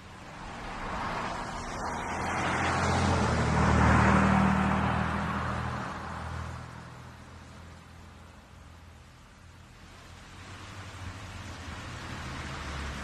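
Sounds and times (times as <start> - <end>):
motor vehicle passing by: 0.0 - 7.9, 10.1 - 13.0.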